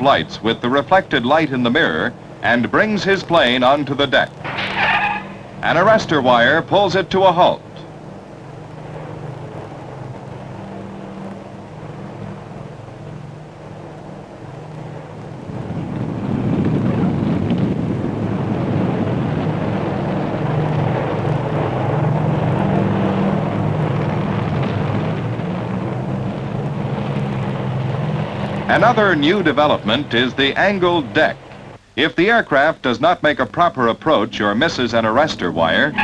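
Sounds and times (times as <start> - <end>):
aircraft engine hum: 0.0 - 36.0.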